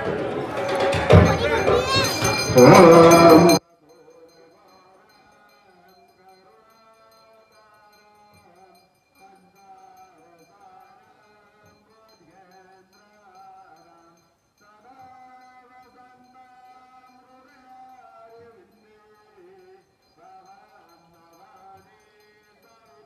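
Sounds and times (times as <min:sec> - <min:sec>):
man chanting a hymn: 0:02.5 - 0:23.0.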